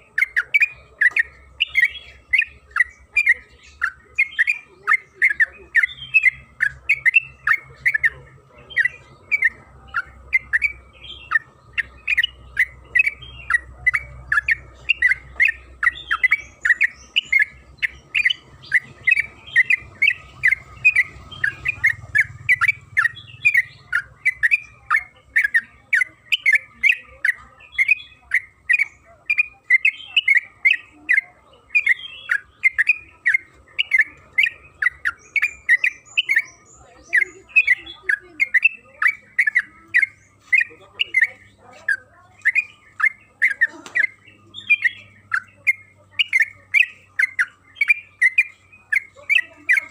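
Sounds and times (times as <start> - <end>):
bird chirping rapidly: 0.0 - 49.9.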